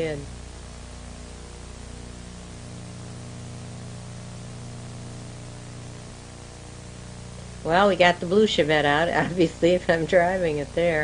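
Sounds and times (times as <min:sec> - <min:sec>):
low electrical hum: 0:00.0 - 0:11.0
steady hiss: 0:00.0 - 0:11.0.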